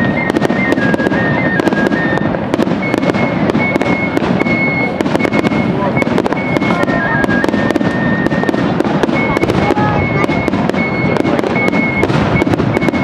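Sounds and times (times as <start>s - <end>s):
fireworks booming: 0.0s - 13.0s
fireworks crackling: 0.0s - 13.0s
short high tones: 0.0s - 13.0s.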